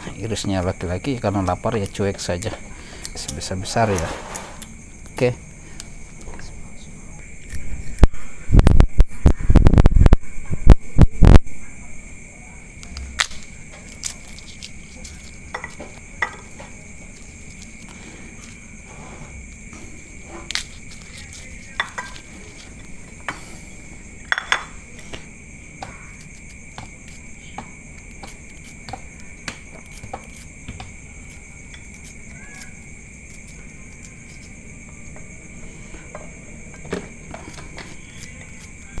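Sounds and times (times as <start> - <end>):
crickets droning: 0.0 - 39.0.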